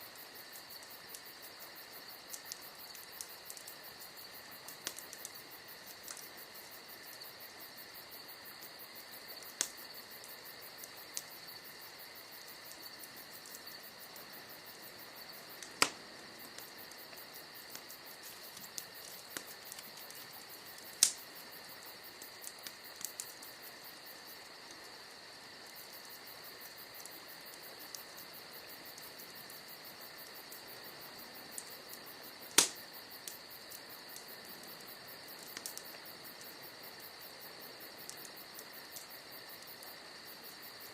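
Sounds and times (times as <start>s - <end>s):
crickets chirring: 0.0s - 40.9s
wood fire crackling: 0.0s - 40.9s.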